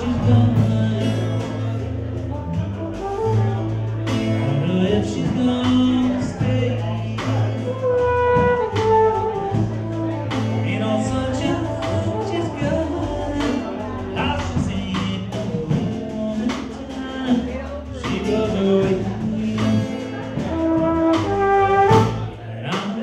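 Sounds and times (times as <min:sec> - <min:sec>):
trumpet melody: 0:00.0 - 0:22.4
acoustic guitar: 0:00.0 - 0:23.0
bass notes: 0:00.0 - 0:23.0
drums: 0:00.0 - 0:23.0
man singing: 0:00.0 - 0:23.0.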